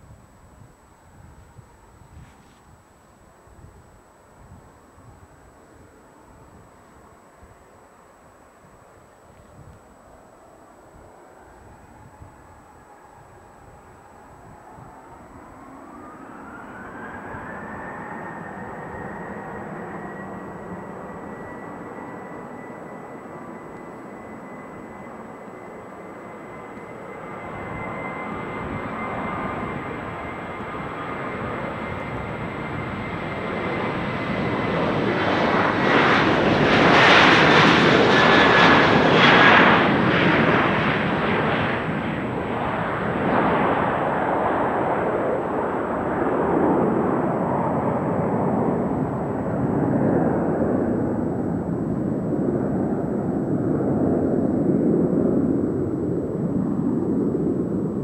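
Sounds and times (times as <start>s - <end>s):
jet engines at takeoff: 0.0s - 58.0s.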